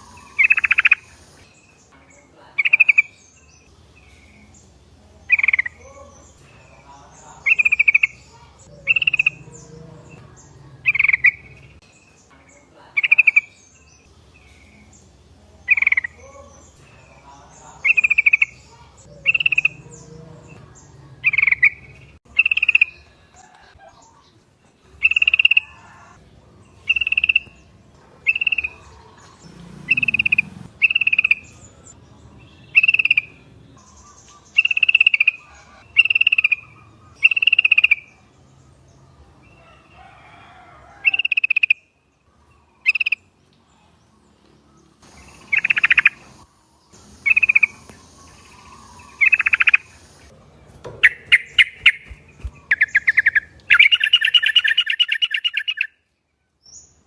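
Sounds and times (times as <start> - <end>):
bird calling: 0.0 - 1.5, 5.3 - 11.8, 15.6 - 26.2, 26.8 - 38.3, 39.6 - 56.1.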